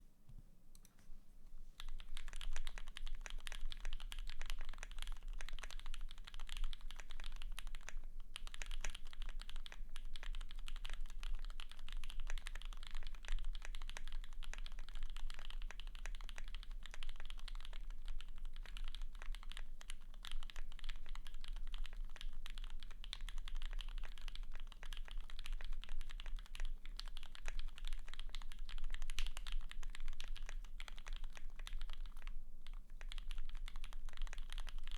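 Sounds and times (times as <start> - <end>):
fast mechanical keyboard typing: 1.8 - 34.9.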